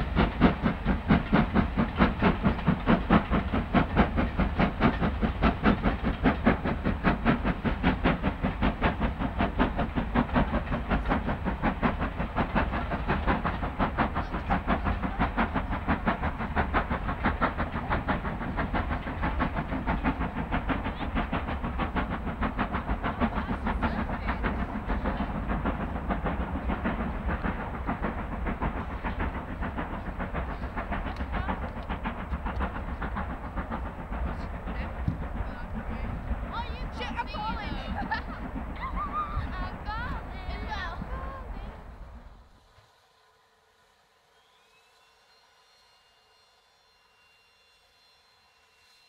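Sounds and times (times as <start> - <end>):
steam locomotive chuffing: 0.0 - 49.0.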